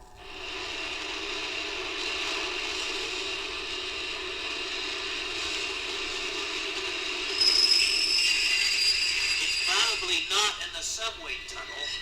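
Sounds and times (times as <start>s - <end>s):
high-pitched squeal: 0.0s - 12.0s
subway train rumble: 0.0s - 12.0s.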